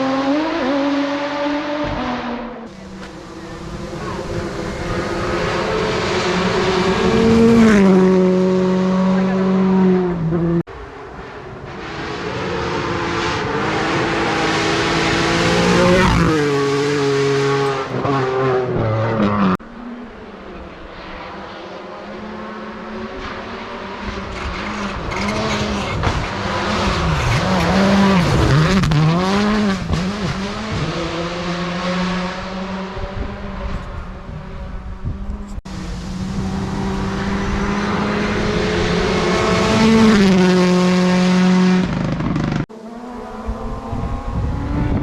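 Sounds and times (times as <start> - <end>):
rally car engines revving: 0.0 - 45.0.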